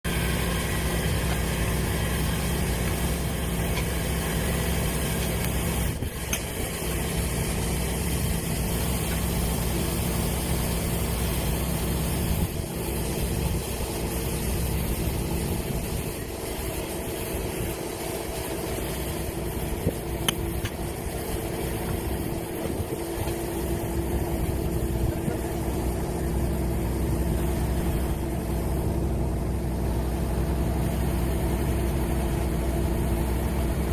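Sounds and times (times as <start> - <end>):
power unit engine running: 0.0 - 33.9.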